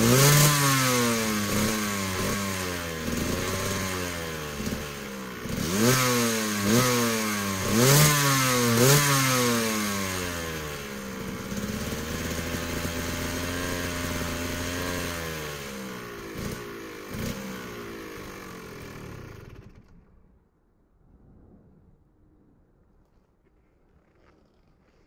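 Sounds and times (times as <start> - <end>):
dirt bike engine idling: 0.0 - 20.3.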